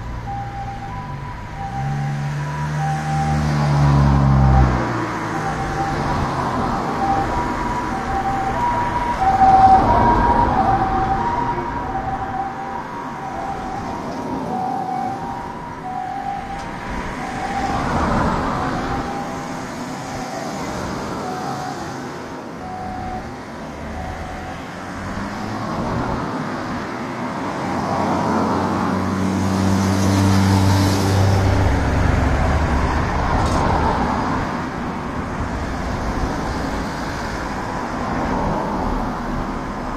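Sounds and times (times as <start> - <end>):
vehicle engine rumbling: 0.0 - 26.8, 28.7 - 39.9
two-tone emergency siren: 0.0 - 34.9
road traffic: 0.0 - 39.9.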